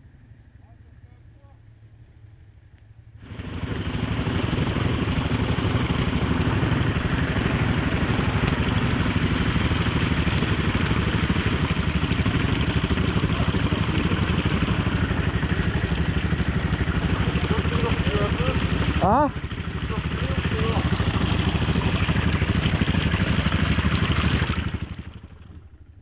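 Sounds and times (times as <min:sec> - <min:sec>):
quad engine running: 0:03.2 - 0:26.0.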